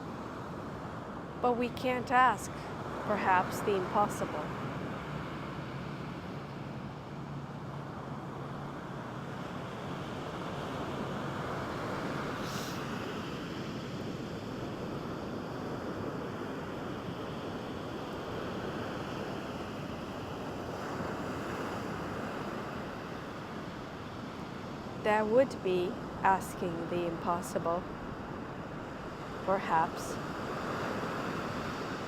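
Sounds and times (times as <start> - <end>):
waves breaking on beach: 0.0 - 32.0.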